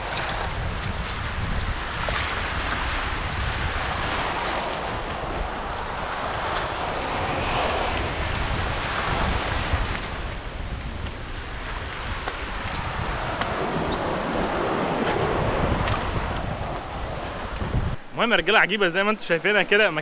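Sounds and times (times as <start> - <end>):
sea waves washing into a cove: 0.0 - 20.0
wind buffeting the microphone: 0.0 - 20.0.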